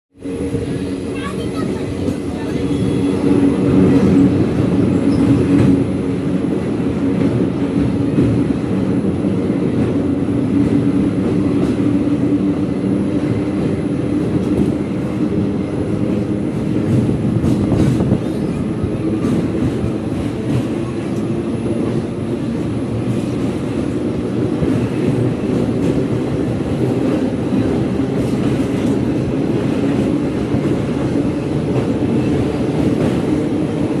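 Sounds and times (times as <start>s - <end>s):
train rumbling on track: 0.1s - 34.0s.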